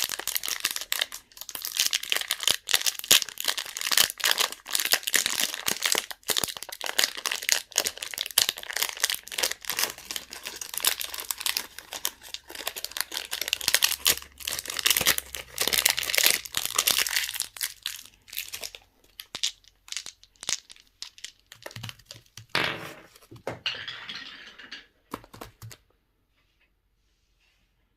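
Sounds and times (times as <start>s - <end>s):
candy wrappers crinkling and tearing: 0.0s - 22.5s.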